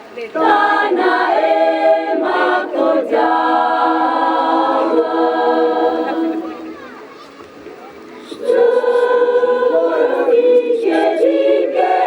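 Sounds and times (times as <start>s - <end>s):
choir singing in harmony: 0.4s - 6.8s, 8.2s - 12.0s.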